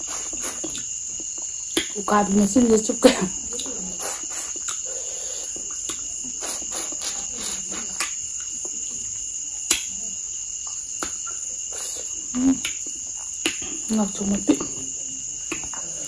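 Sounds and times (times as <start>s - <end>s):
high-pitched insect trilling: 0.0s - 16.0s.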